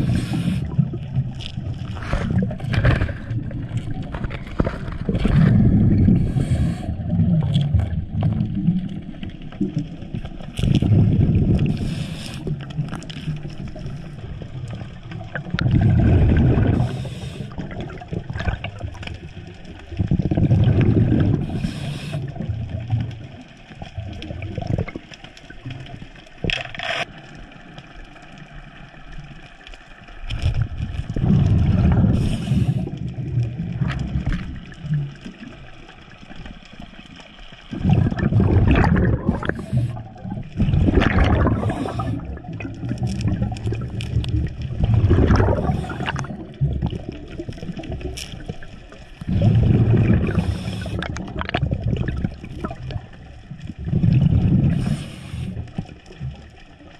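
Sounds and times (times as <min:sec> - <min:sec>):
underwater gurgling rush: 0:00.0 - 0:56.9.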